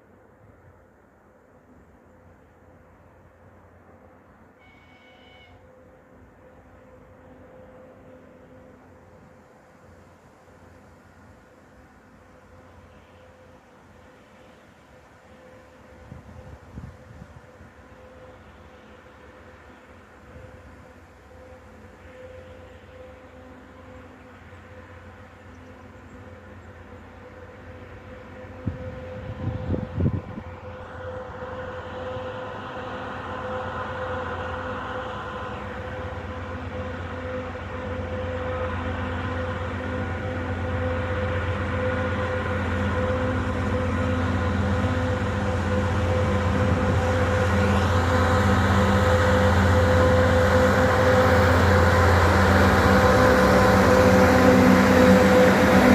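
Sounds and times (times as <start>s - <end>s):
diesel locomotive engine hum: 0.0s - 55.9s.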